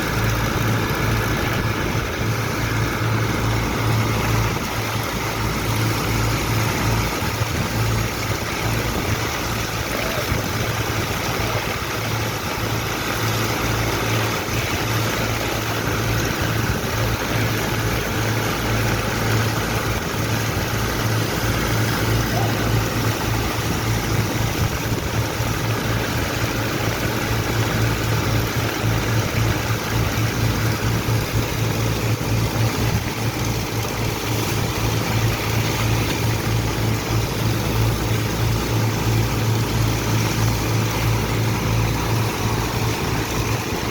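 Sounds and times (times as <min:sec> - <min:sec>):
constant rushing noise: 0:00.0 - 0:43.9
large diesel engine droning: 0:00.0 - 0:43.9.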